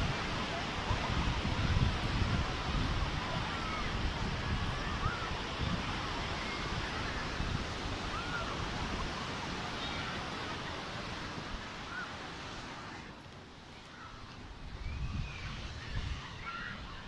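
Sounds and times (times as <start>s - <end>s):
wind buffeting microphone: 0.0s - 12.6s, 13.6s - 17.0s
distant surf hiss: 0.0s - 17.0s.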